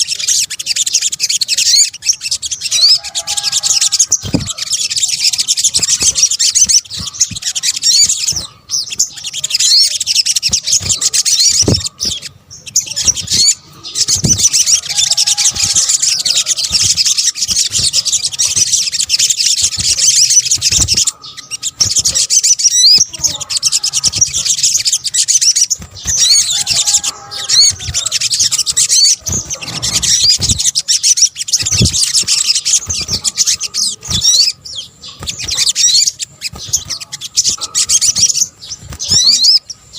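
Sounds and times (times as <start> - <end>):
bird twittering and chirping: 0.0 - 39.9.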